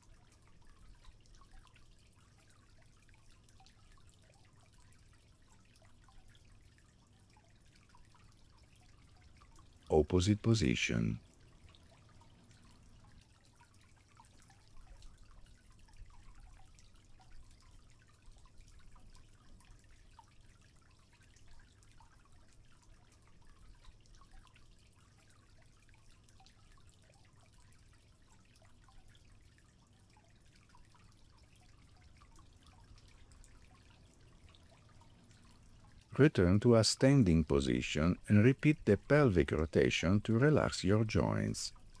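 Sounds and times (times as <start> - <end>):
soft water drips: 0.0 - 36.1
faint trickling water: 0.0 - 42.0.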